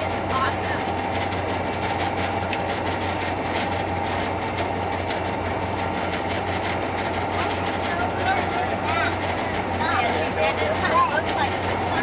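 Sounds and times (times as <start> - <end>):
diesel locomotive engine drone: 0.0 - 12.0
wheels rolling on rails: 0.0 - 12.0.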